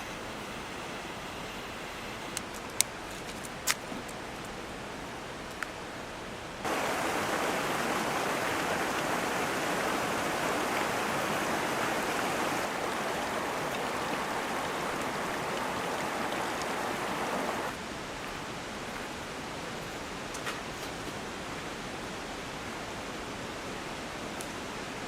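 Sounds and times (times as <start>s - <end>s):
mountain stream flowing: 0.0s - 20.4s.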